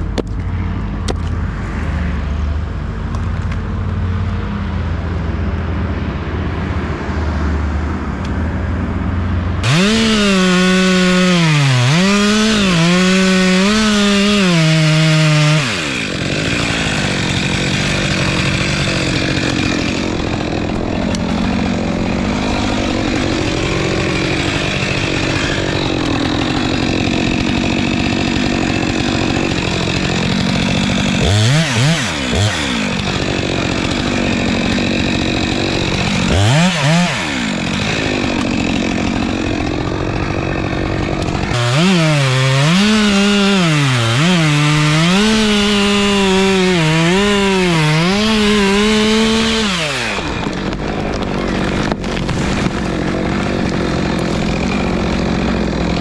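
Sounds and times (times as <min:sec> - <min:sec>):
chainsaw revving and cutting: 0:09.5 - 0:56.0.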